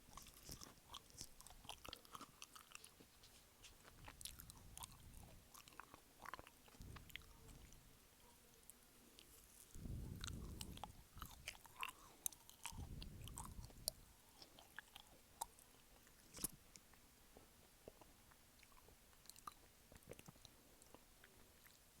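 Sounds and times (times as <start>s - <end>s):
chewing gummy candy: 0.0s - 22.0s.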